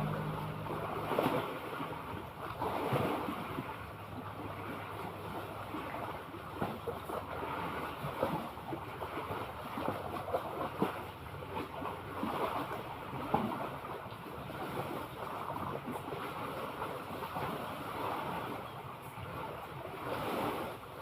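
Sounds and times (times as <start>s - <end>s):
water lapping and splashing: 0.0s - 21.0s
waves washing: 0.0s - 21.0s.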